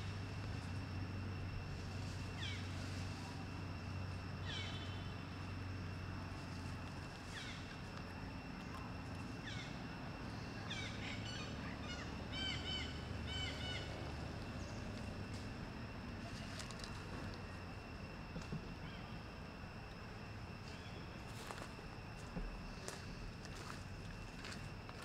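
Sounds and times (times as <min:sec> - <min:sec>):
outdoor hum: 0:00.0 - 0:25.0.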